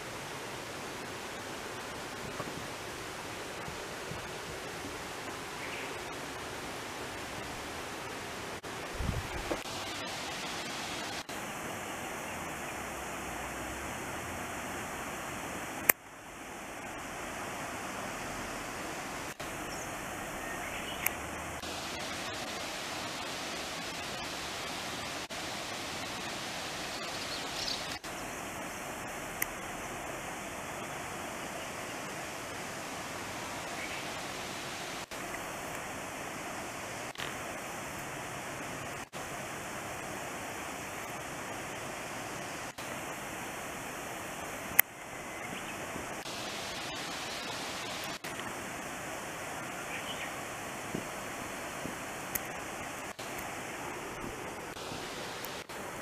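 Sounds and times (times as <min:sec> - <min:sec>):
rushing outdoor background noise: 0:00.0 - 0:56.0.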